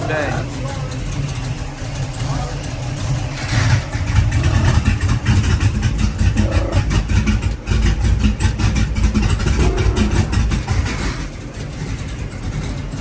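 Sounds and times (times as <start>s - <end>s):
car engine idling choppily: 0.0s - 13.0s.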